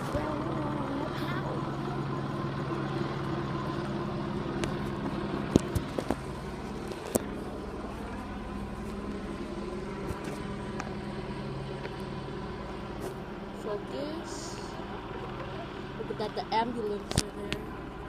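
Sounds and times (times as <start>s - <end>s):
helicopter hovering: 0.0s - 18.0s.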